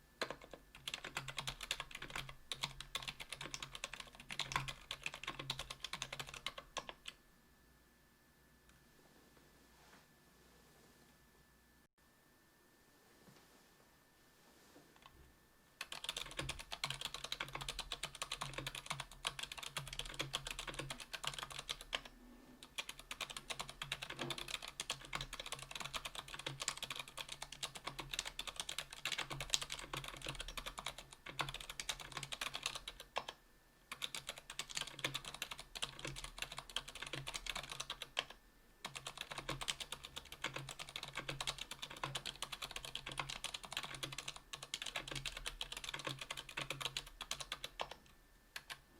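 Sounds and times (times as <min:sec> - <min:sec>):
fast typing on mechanical keyboard: 0:00.2 - 0:07.2, 0:15.8 - 0:48.8.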